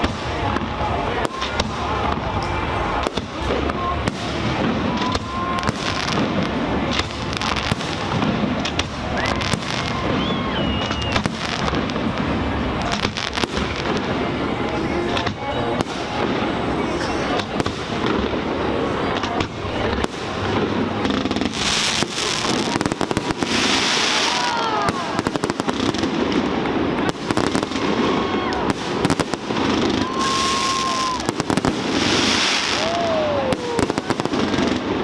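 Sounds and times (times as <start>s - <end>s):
firework whistling tones: 0.0s - 35.0s
fireworks bangs: 0.0s - 35.0s
fireworks hissing crackling bursts: 0.0s - 35.0s.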